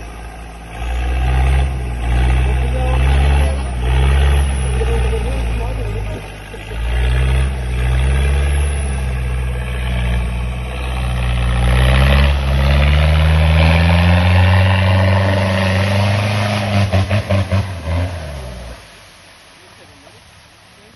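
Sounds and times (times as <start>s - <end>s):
off-road vehicle engine revving: 0.0s - 20.2s.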